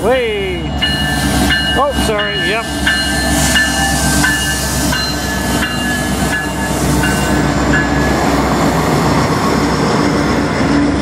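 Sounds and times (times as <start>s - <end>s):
diesel locomotive drone: 0.0s - 11.0s.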